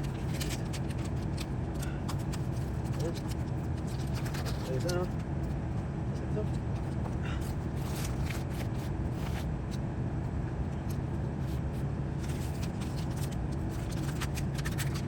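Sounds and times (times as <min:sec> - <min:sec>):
handling rustles: 0:00.0 - 0:09.8, 0:10.8 - 0:15.0
low mechanical hum: 0:00.0 - 0:15.0.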